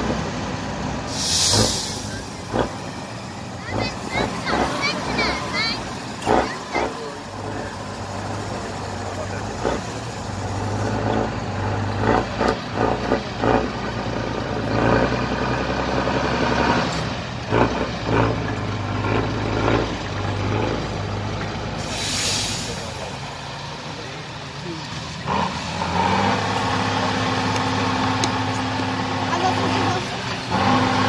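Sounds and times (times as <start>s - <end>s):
diesel truck engine under load: 0.0s - 31.0s.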